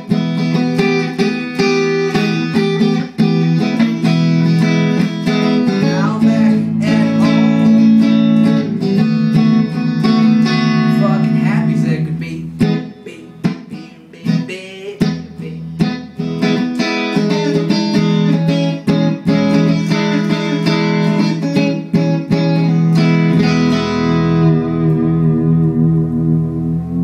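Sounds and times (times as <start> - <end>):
electric guitar playing: 0.0 - 27.0.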